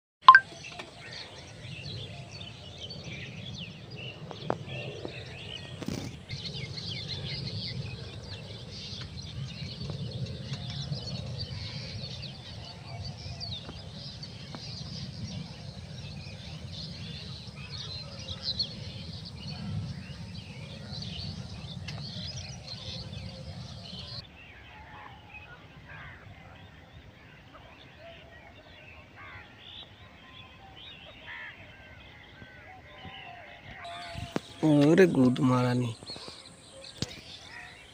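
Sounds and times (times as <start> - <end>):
birds chirping and calling: 0.5 - 37.9.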